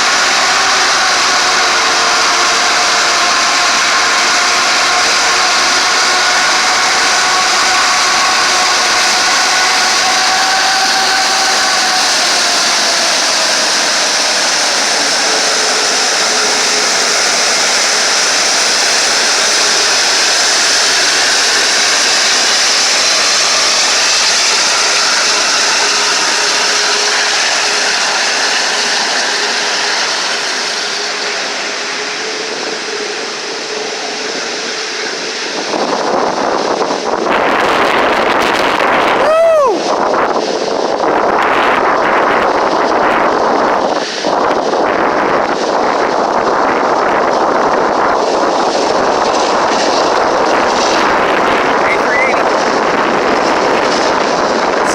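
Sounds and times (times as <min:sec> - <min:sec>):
jet blast buffeting microphone: 0:00.0 - 0:54.9
jet engines idling: 0:00.0 - 0:54.9.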